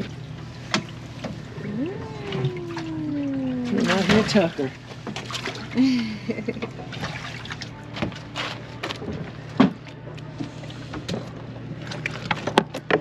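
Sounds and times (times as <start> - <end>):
low hum: 0.0 - 13.0
water sloshing in tub: 0.0 - 13.0.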